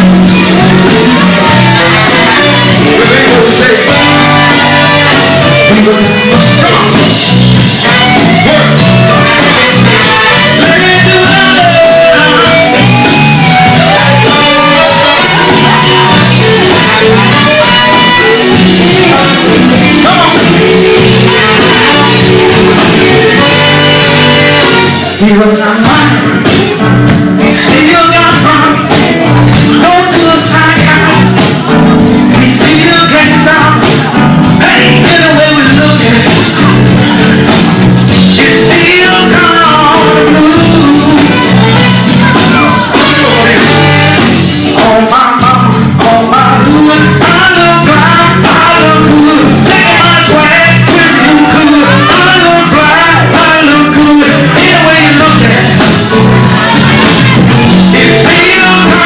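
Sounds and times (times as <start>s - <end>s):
live blues band: 0.0s - 59.0s
man singing into a microphone: 0.0s - 59.0s.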